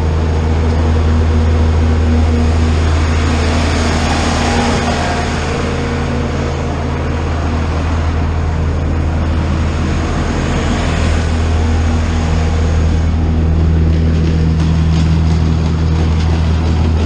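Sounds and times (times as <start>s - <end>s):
truck engine droning: 0.0s - 17.0s
tyre and road noise: 0.0s - 17.0s.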